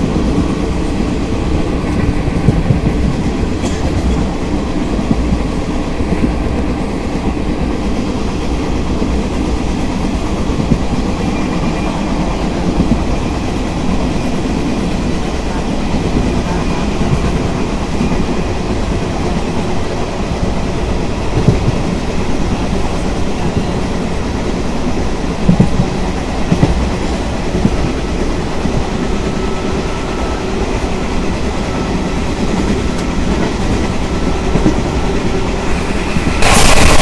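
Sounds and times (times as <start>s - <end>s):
train knocks: 0.0s - 37.0s
train wheels rumbling on rails: 0.0s - 37.0s.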